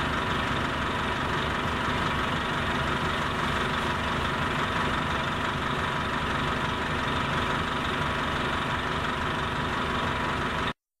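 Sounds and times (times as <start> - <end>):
diesel bus engine idling: 0.0 - 10.8.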